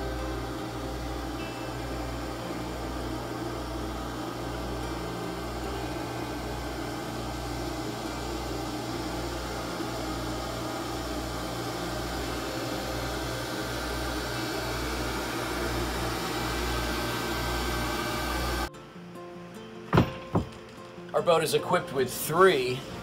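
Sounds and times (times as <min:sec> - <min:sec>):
engine room machinery humming: 0:00.0 - 0:18.7.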